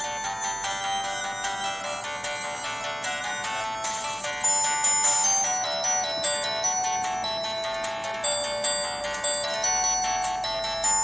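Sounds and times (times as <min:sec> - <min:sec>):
synthesized ringtone melody: 0:00.0 - 0:11.0.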